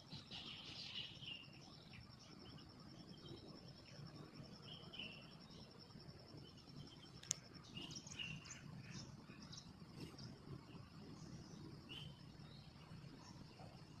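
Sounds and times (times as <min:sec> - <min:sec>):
bird chirps: 0:00.0 - 0:05.8, 0:06.4 - 0:13.9
pulsing insect trill: 0:00.0 - 0:14.0.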